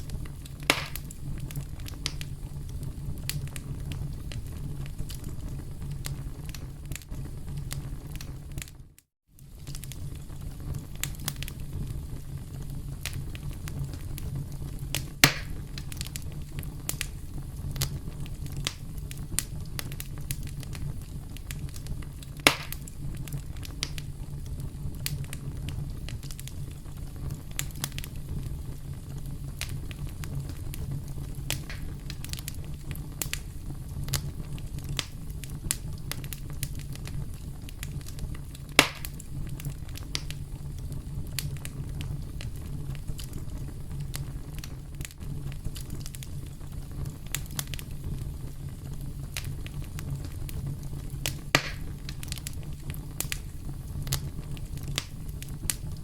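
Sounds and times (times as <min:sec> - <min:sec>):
campfire crackling: 0:00.0 - 0:56.0
loud fire pops: 0:00.0 - 0:56.0.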